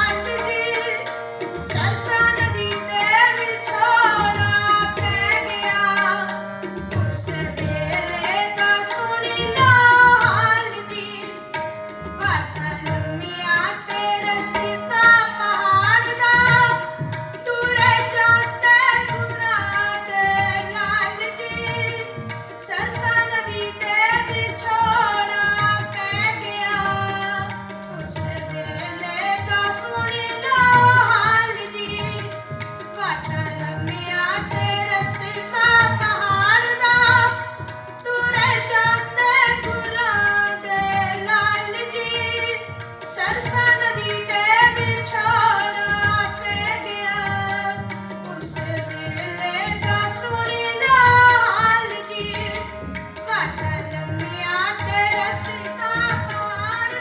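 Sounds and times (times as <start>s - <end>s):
harmonium: 0.0s - 57.0s
person singing devotional song: 0.0s - 57.0s
tabla beat: 0.0s - 57.0s.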